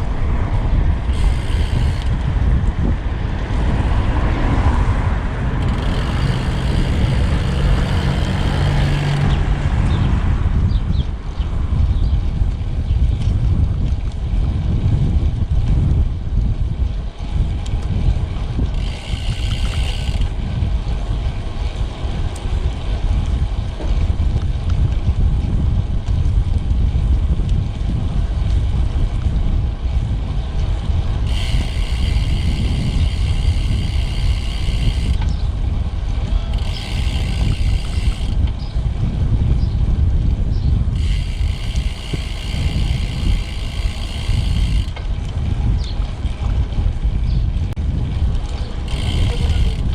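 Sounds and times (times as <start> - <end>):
bike tyre road rumble: 0.0 - 49.9
wind buffeting microphone: 0.0 - 49.9.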